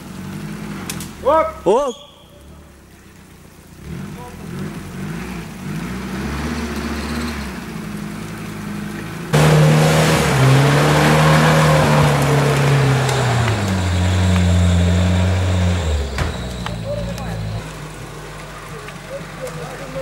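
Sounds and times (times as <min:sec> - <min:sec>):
off-road vehicle engine revving: 0:00.0 - 0:01.7, 0:02.4 - 0:20.0
wheels spinning in mud: 0:00.0 - 0:20.0.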